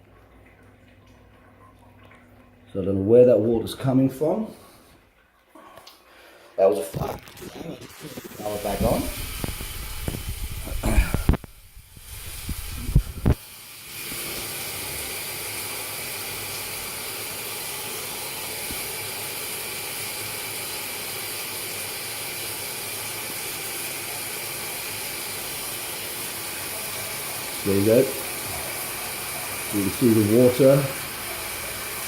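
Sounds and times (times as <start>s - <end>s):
running water hiss: 5.6s - 32.0s.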